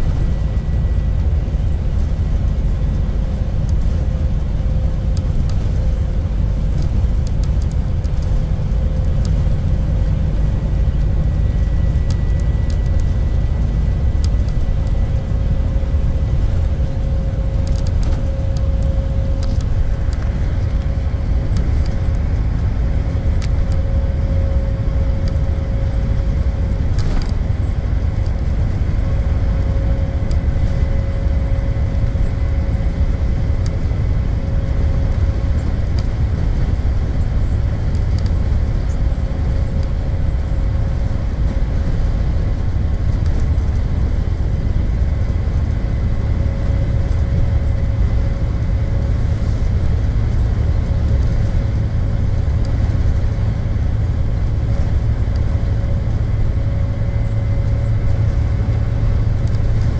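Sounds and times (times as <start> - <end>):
bus engine and road rumble: 0.0 - 59.9
steady whine: 0.0 - 59.9.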